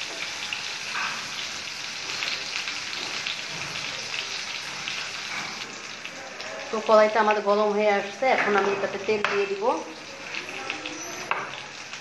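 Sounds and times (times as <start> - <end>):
crackling sizzle of frying: 0.0 - 12.0.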